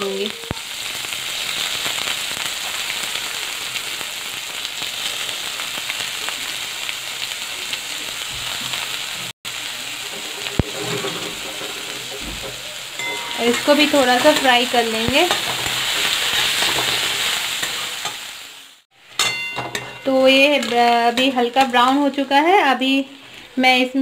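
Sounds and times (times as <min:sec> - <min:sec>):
onion and garlic sizzling in oil: 0:00.0 - 0:24.0.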